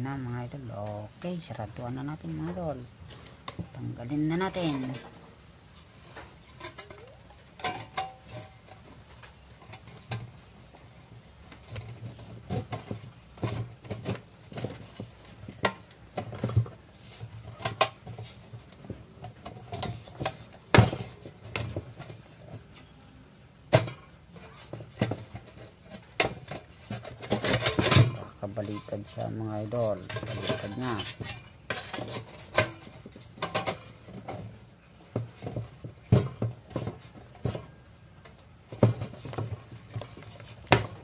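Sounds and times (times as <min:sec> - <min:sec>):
sheet metal clanks and scrapes: 0:05.8 - 0:22.8, 0:23.7 - 0:41.0.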